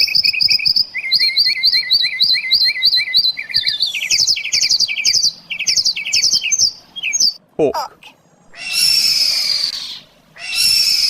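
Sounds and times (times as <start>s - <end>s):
mockingbird singing: 0.0s - 11.0s.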